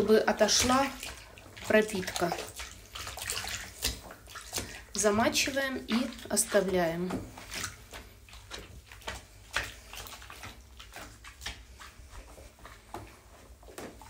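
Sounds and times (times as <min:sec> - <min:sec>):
soft sloshes of soapy water: 0:00.0 - 0:14.0.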